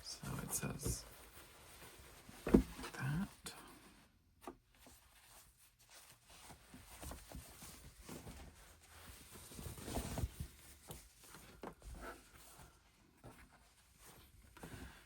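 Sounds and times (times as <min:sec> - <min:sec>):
towels and packaging rustling: 0:00.0 - 0:15.0.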